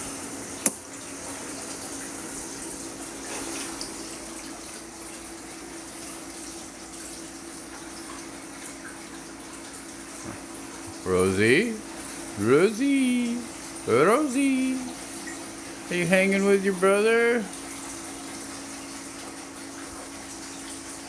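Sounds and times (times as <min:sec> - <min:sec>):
running water rushing: 0:00.0 - 0:21.0
steady low hum: 0:00.1 - 0:20.4.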